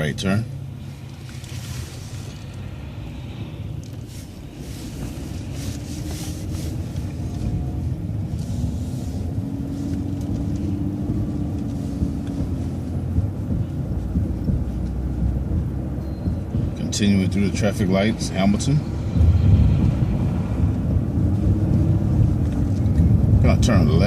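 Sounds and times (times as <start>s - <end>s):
bus engine rumble: 0.0s - 24.0s
faint drivetrain whine: 0.0s - 24.0s.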